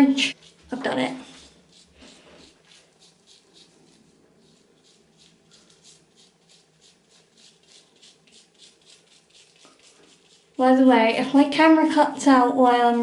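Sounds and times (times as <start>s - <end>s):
rubbing and squishing wet hair: 0.3s - 11.6s.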